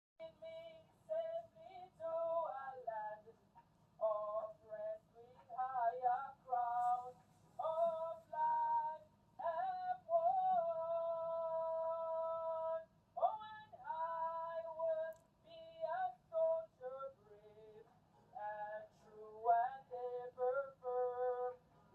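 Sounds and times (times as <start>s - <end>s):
woman singing: 0.2s - 3.3s, 4.0s - 17.8s, 18.4s - 21.6s.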